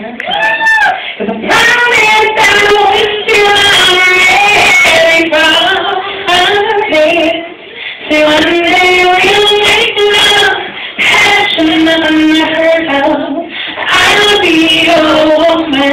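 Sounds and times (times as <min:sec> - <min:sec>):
woman singing: 0:01.1 - 0:15.9.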